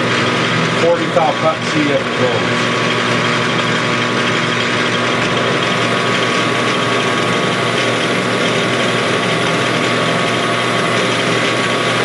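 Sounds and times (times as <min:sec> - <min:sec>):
metal lathe humming: 0:00.0 - 0:12.0.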